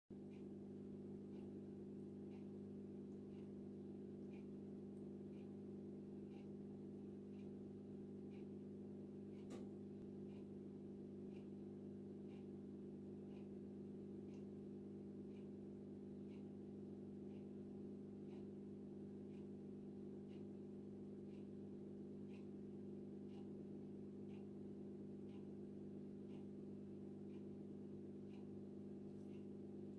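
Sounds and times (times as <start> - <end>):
aquarium equipment humming: 0.2 - 29.9
faint regular ticks: 0.2 - 29.9.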